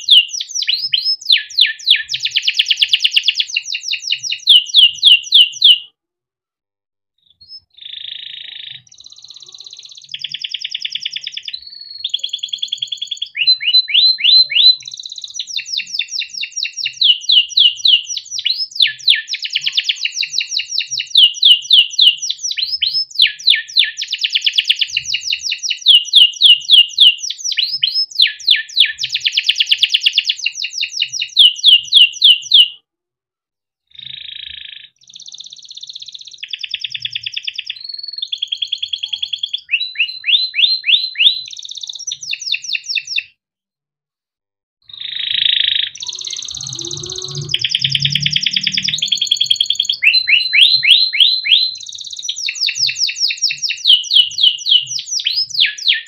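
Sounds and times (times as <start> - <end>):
canary singing chirps and trills: 0.0 - 5.9, 7.2 - 32.8, 33.9 - 43.4, 44.9 - 56.0.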